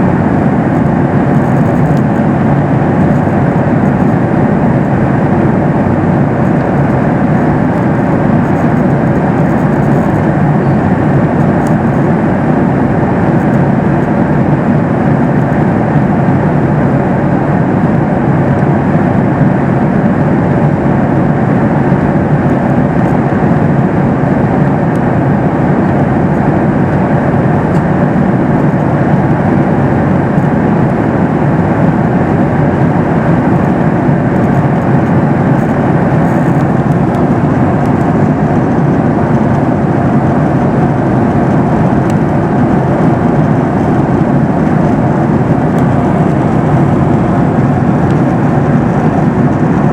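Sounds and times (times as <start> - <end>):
aircraft engine hum: 0.0 - 49.9
airflow rush: 0.0 - 49.9.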